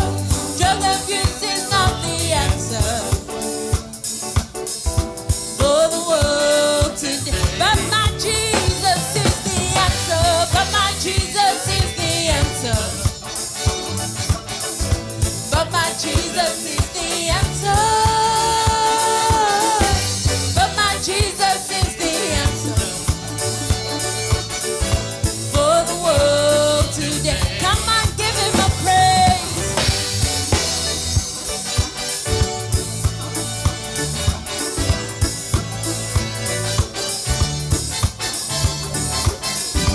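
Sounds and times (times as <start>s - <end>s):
drum kit and bass beat: 0.0s - 39.9s
gospel band playing worship song: 0.0s - 39.9s.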